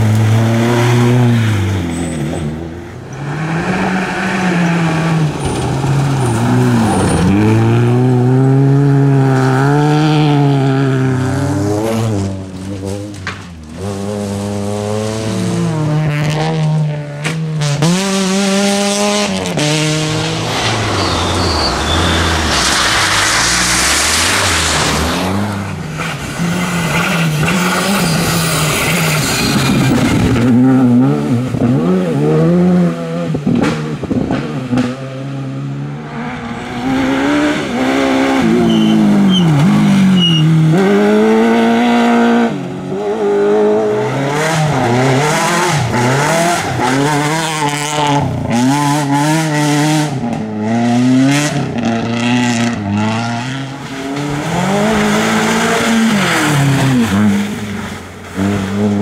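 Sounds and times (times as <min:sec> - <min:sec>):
gravel and tyre rush: 0:00.0 - 0:59.0
rally car engines revving: 0:00.0 - 0:59.0.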